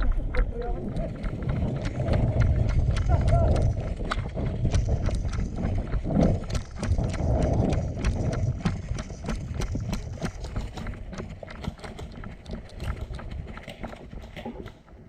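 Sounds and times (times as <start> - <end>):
wind rumble: 0.0 - 15.0.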